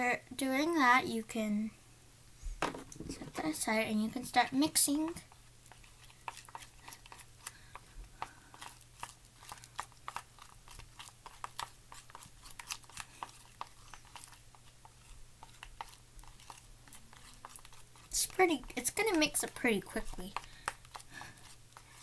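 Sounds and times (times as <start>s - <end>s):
stick stirring glue in a bowl: 2.7s - 22.0s.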